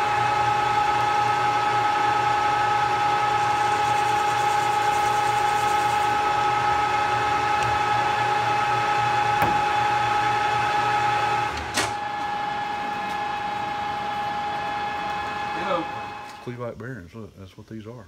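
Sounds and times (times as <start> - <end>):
metal lathe whine: 0.0 - 16.5.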